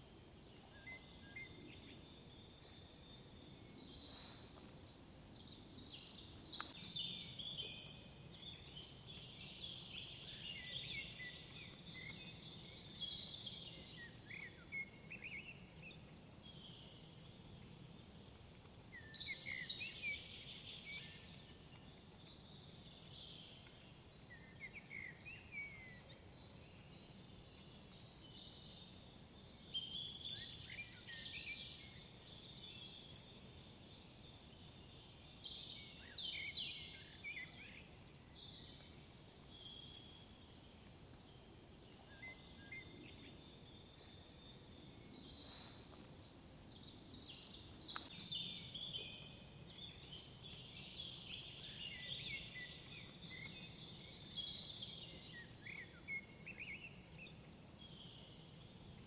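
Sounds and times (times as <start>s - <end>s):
faint background hiss: 0.0s - 59.0s
songbirds singing: 0.0s - 59.0s.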